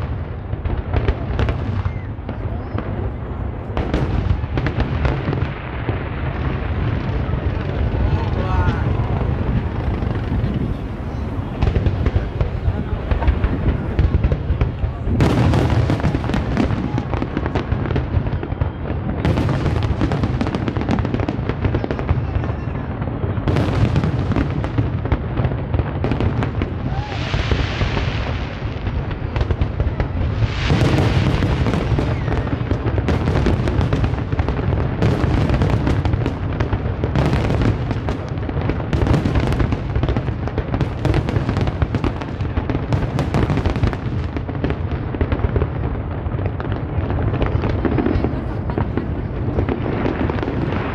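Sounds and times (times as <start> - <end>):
firework crackle: 0.0 - 50.9
firework shells booming: 0.0 - 50.9.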